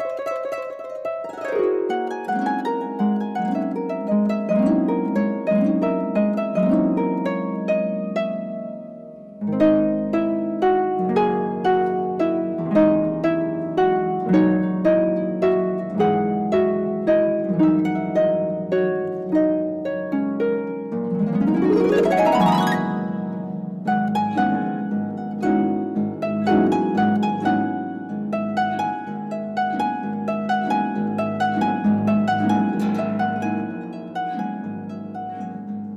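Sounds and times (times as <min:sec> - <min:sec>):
harp glissando: 0:00.0 - 0:35.9
harp plucked notes: 0:00.0 - 0:35.9.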